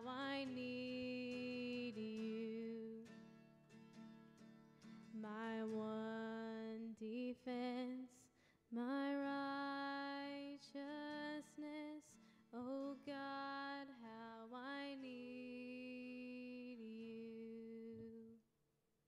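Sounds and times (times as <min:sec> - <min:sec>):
woman singing worship song: 0:00.0 - 0:03.1, 0:05.1 - 0:18.4.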